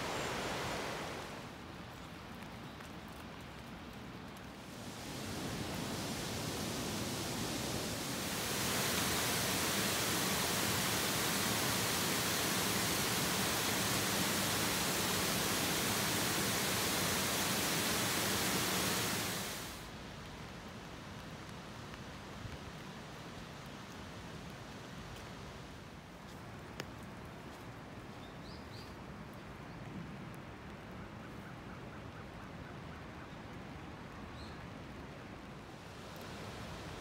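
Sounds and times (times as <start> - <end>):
rain hiss: 0.0 - 37.0.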